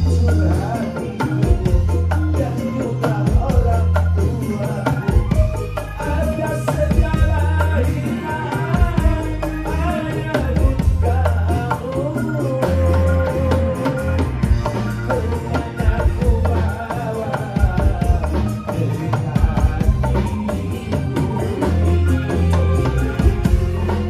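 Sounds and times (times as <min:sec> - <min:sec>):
live band through pa system: 0:00.0 - 0:24.0
rapid hand drum strokes: 0:00.0 - 0:24.0
wavering melody line: 0:00.0 - 0:24.0.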